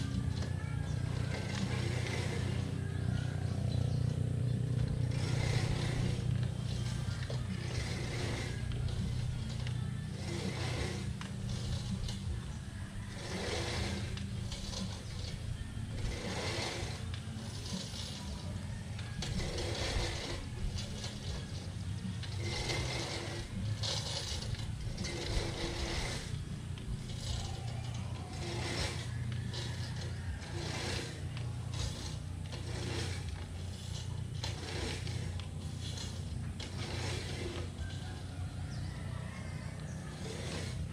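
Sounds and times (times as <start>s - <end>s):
push reel mower whirring: 0.0s - 40.9s
steady low hum: 0.0s - 40.9s.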